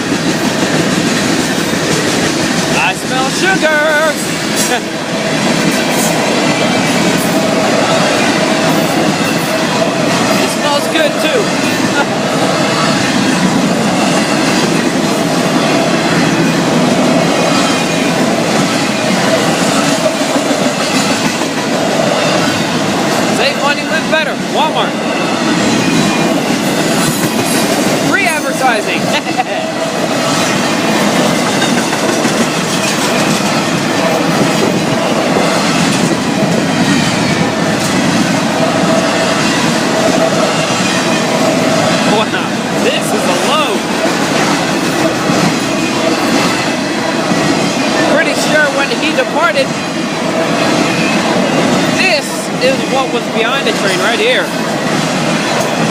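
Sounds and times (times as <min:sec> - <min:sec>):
train wheels clattering on rails: 0:00.0 - 0:55.9.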